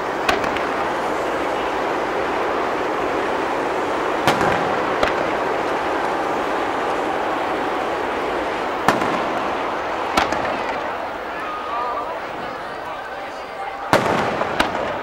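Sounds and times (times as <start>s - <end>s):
firework shells bursting: 0.0s - 15.0s
steady background noise: 0.0s - 15.0s.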